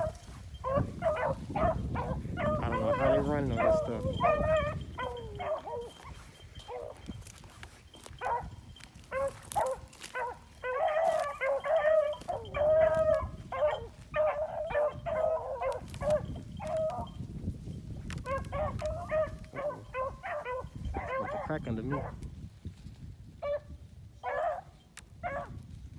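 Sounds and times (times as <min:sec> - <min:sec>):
hounds baying: 0:00.0 - 0:17.2, 0:18.1 - 0:22.2, 0:23.4 - 0:25.6.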